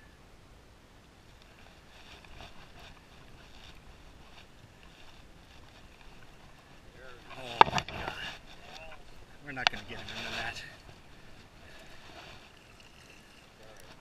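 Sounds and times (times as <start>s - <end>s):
faint wind: 0.0s - 14.0s
soft ticks and splashes: 1.1s - 14.0s.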